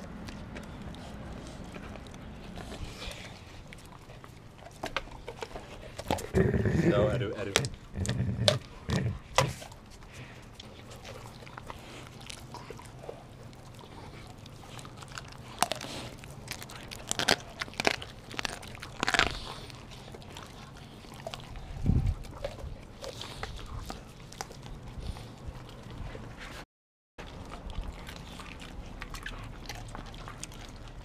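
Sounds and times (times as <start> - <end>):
dogs crunching raw chicken: 0.0 - 26.6, 27.2 - 31.0.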